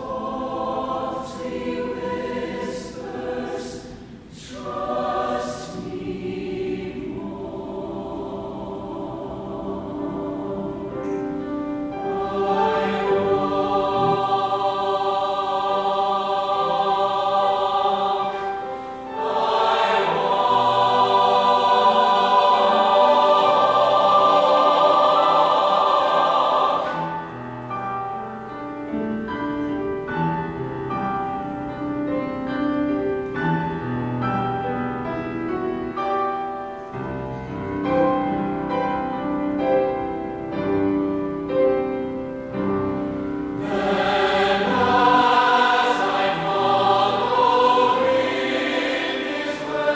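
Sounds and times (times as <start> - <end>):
mixed choir singing: 0.0 - 28.0, 36.9 - 49.9
grand piano accompaniment: 0.0 - 49.9.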